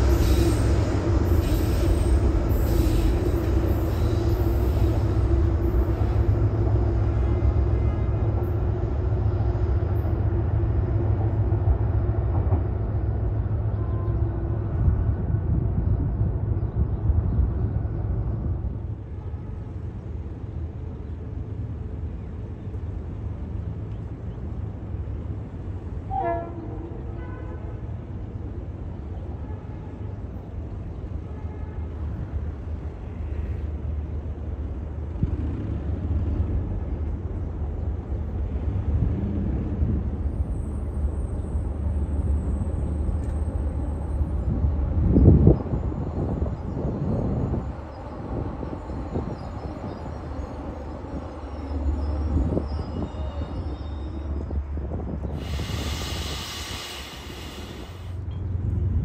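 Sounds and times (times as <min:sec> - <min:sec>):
outdoor rumble with wind: 0:00.0 - 0:26.1, 0:27.8 - 0:59.0.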